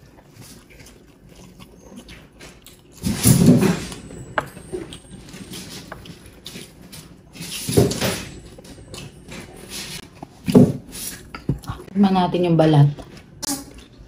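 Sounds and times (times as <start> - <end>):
people chewing with wet mouth sounds: 0.0 - 7.6, 8.4 - 12.1, 12.7 - 14.0.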